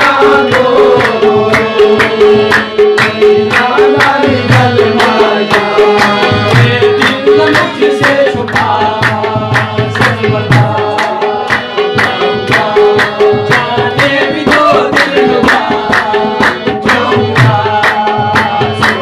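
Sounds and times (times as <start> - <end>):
harmonium chords: 0.0 - 19.0
tabla rhythm: 0.0 - 19.0.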